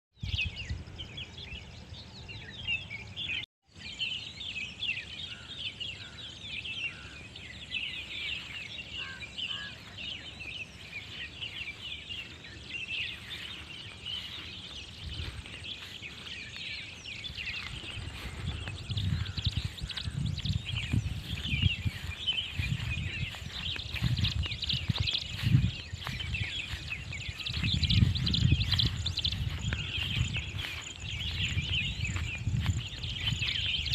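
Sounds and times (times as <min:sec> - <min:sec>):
small birds chirping and chattering: 0:00.2 - 0:33.9.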